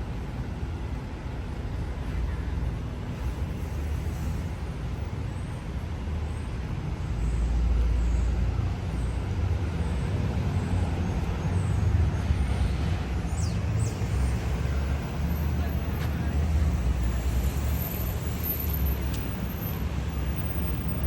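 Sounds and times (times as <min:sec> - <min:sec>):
vehicle engines rumbling past: 0:00.0 - 0:21.0.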